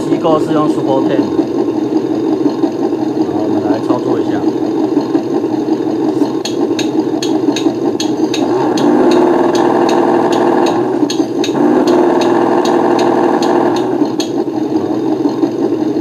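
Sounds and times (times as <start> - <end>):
regular sharp ticking: 0.0 - 16.0
simulated engine through small speaker: 0.0 - 16.0.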